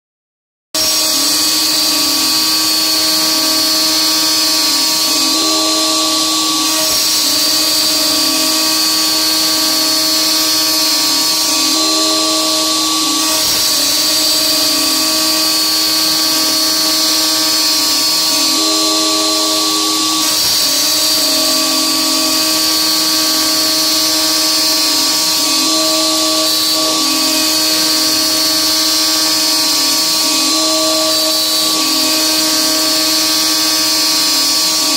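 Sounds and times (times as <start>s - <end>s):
router motor whine: 0.8s - 34.9s
hiss of cutting metal: 1.2s - 34.9s.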